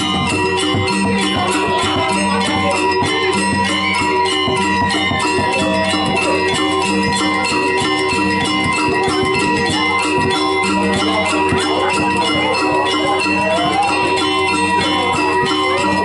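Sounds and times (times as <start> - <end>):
gamelan playing: 0.0 - 16.0.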